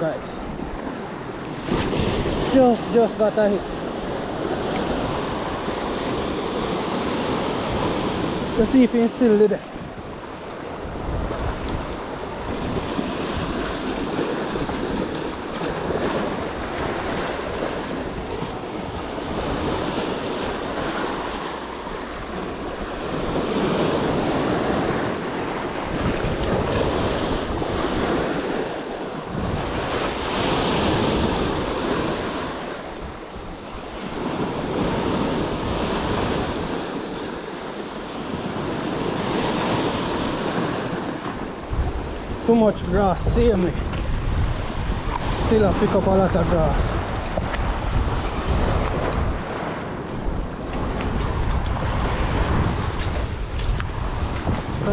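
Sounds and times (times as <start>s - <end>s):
wind buffeting microphone: 0.0s - 54.9s
small waves breaking on rocks: 10.4s - 54.9s.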